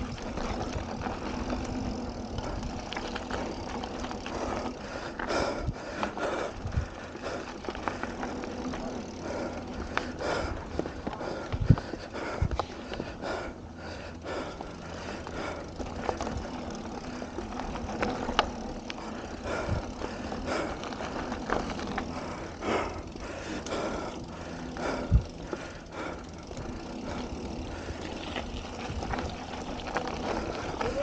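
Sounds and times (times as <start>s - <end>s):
bike knocking and rattling: 0.0s - 31.0s
bike tyres rolling on dirt trail: 0.0s - 31.0s.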